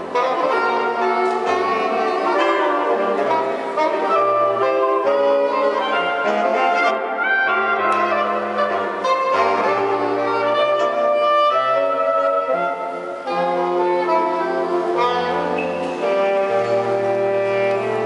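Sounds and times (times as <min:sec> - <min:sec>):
saxophone quartet playing: 0:00.0 - 0:18.0.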